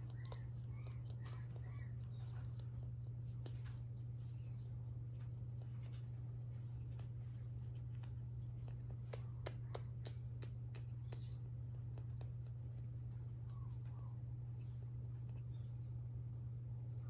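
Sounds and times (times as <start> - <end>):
faint clicks and ticks: 0.0 - 14.2.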